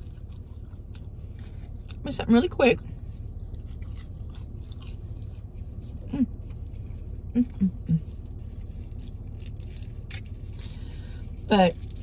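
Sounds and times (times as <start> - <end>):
low hum inside car: 0.0 - 12.0.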